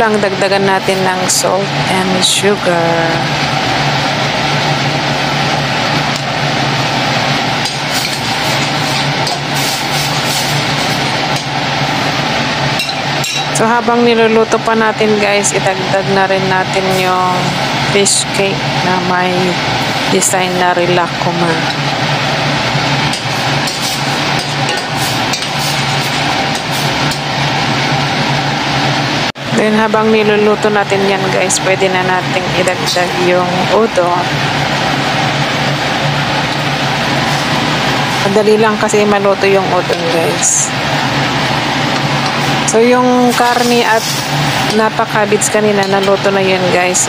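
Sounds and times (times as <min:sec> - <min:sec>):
mechanical hum with hiss: 0:00.0 - 0:47.0.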